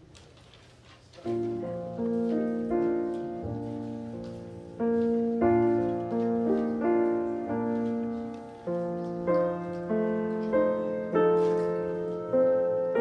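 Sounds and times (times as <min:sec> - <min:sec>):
slow gentle piano chords: 0:01.2 - 0:13.0.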